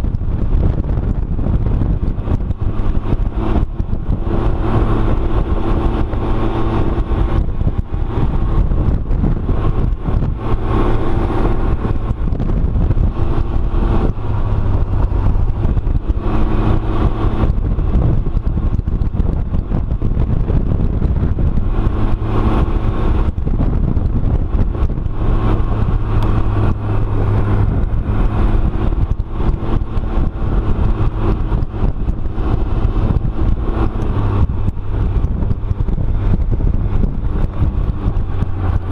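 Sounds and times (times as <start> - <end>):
road and wind noise: 0.0 - 38.9
three-wheeler engine revving: 0.0 - 38.9.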